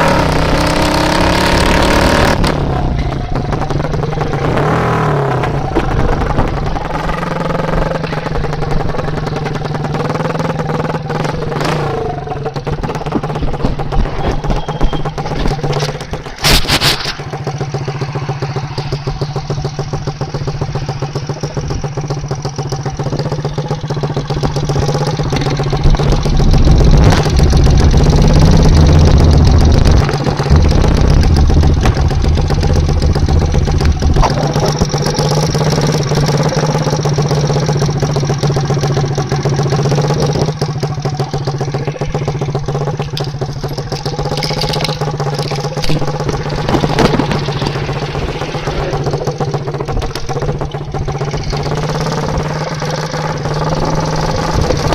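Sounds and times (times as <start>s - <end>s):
small motorcycle engine idling: 0.0s - 54.9s.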